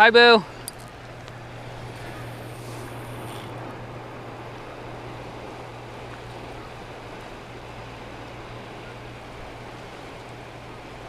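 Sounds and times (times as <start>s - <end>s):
river water rushing: 0.0s - 11.0s
wind: 0.0s - 11.0s
low hum: 0.4s - 11.0s.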